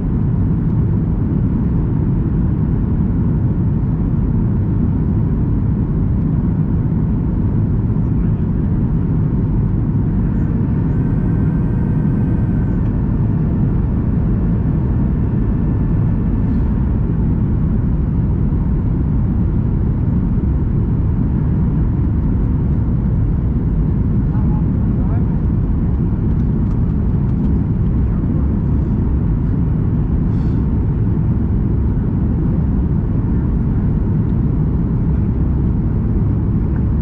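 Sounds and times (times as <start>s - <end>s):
airliner cabin engine roar: 0.0s - 37.0s.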